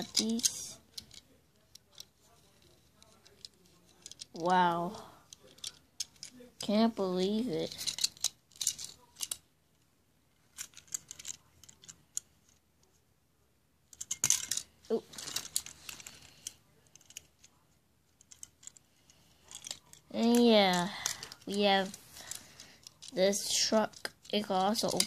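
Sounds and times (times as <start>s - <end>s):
toy cars and packaging handled: 0.0s - 9.5s, 10.3s - 13.0s, 13.9s - 25.0s.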